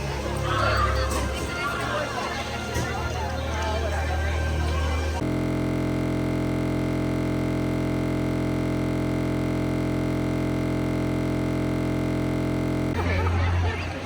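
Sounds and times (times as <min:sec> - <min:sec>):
electronic drone of held tones: 0:00.0 - 0:14.0.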